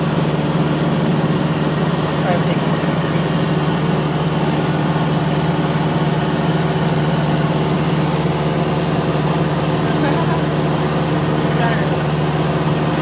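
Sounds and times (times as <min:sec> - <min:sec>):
airplane engine and propeller hum: 0:00.0 - 0:13.0.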